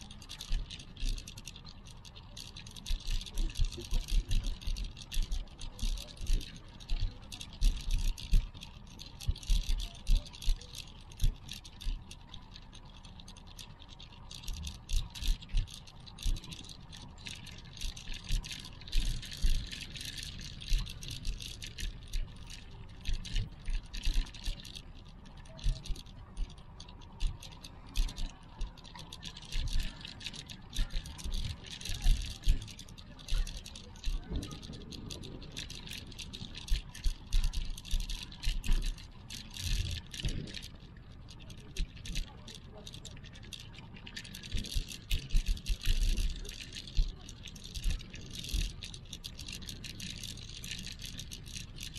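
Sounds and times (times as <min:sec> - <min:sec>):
steady outdoor hiss: 0:00.0 - 0:51.9.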